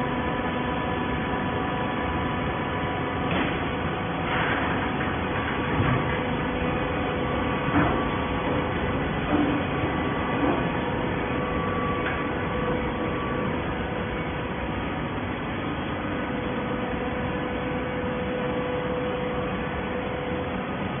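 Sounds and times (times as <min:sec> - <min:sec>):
thin steady whine: 0:00.0 - 0:21.0.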